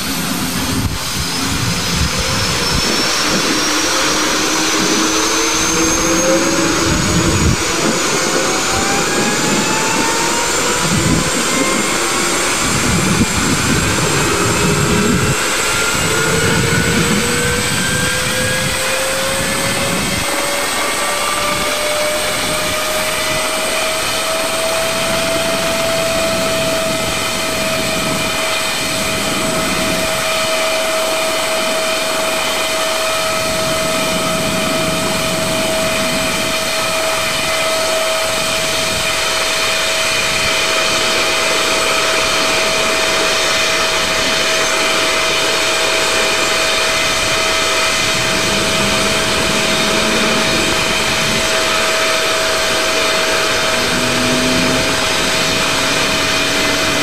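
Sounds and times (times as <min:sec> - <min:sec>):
helicopter turbine whine: 0:00.0 - 0:57.0.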